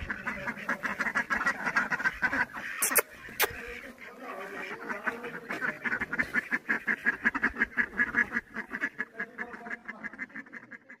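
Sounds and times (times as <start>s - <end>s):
bird quacking calls: 0.0s - 11.0s.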